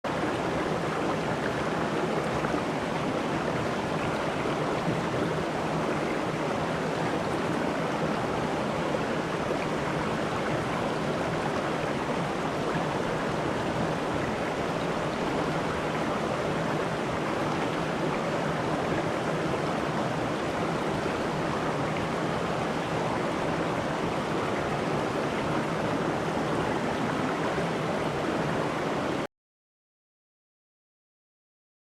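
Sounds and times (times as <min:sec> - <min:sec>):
river water flowing: 0:00.1 - 0:29.2.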